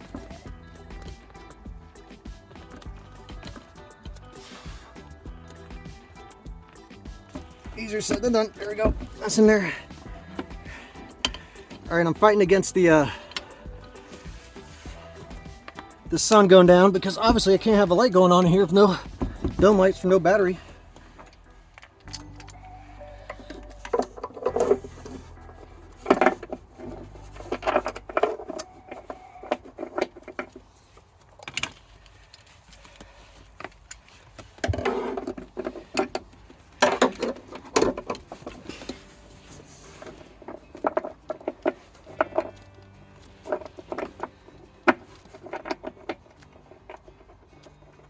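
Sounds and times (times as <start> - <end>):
hand tools and metal clinking: 0.0 - 48.0.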